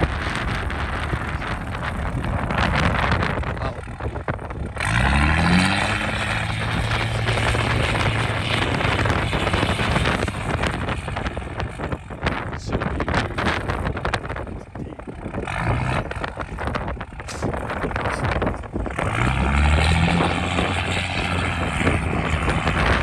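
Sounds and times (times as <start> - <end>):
diesel engine revving: 0.0 - 23.0
wind buffeting microphone: 0.0 - 23.0.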